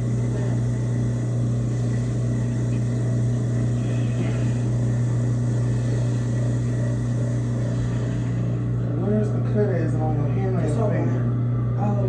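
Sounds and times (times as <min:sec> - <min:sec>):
low electric motor hum: 0:00.0 - 0:12.0.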